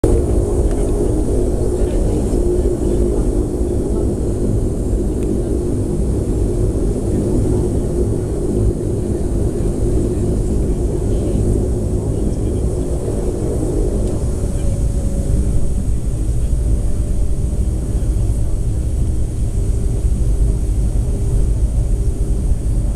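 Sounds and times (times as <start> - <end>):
aircraft engines droning: 0.0 - 22.9.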